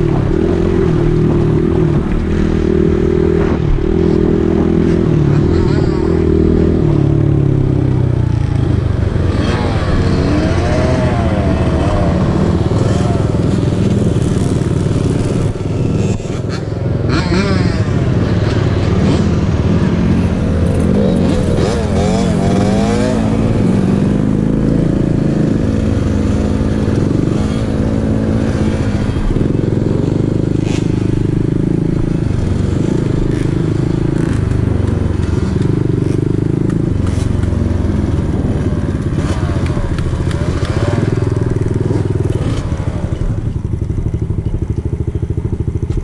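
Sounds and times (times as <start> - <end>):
dirt bike engine revving: 0.0 - 43.6.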